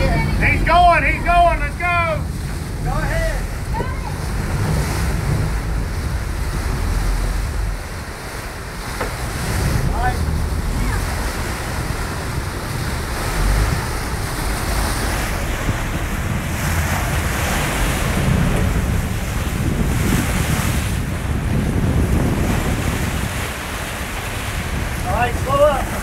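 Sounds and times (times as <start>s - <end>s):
rushing churning water: 0.0s - 26.0s
wind buffeting microphone: 0.0s - 26.0s.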